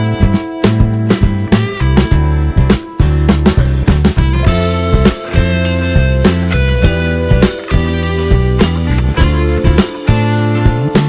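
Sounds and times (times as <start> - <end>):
guitar music with heavy bass: 0.0 - 11.0.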